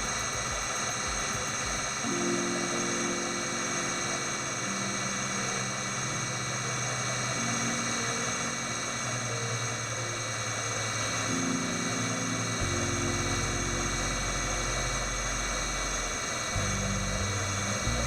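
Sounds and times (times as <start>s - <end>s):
centrifuge motor humming and whining: 0.0s - 18.0s.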